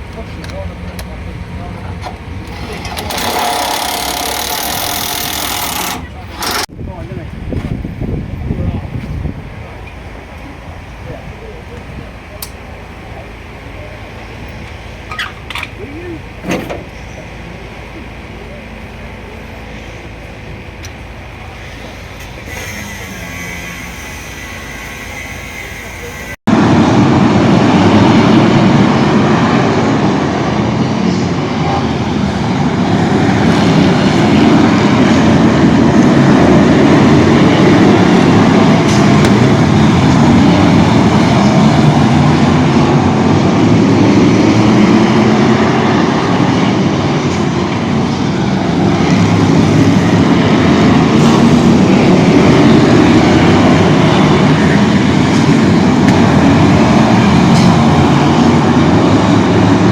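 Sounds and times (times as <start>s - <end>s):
vehicle rumble: 0.0s - 59.9s.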